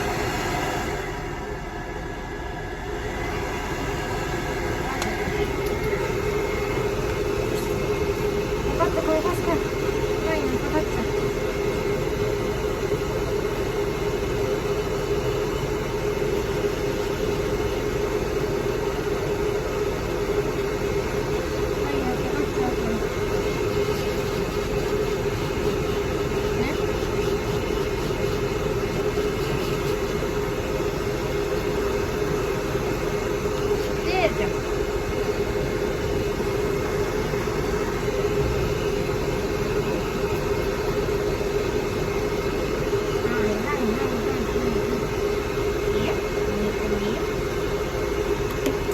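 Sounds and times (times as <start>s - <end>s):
hair dryer running: 0.0s - 48.9s.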